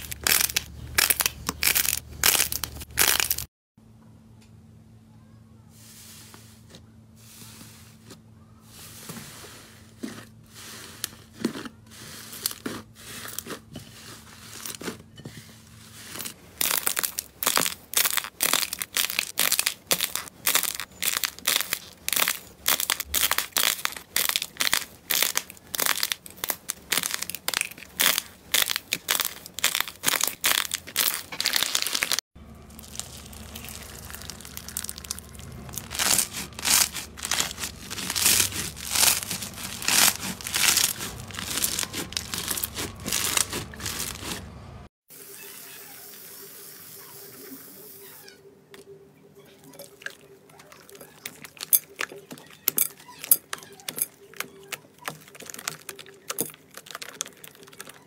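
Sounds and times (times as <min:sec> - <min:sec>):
slime and dried clay crackling: 0:00.0 - 0:03.5, 0:05.9 - 0:44.5, 0:49.6 - 0:58.0.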